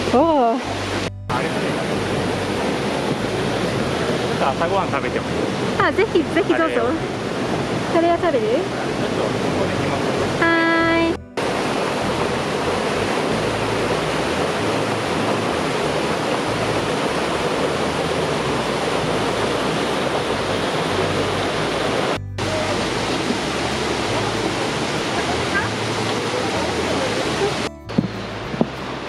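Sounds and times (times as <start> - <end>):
mountain stream rushing: 0.0 - 10.6, 11.4 - 29.0.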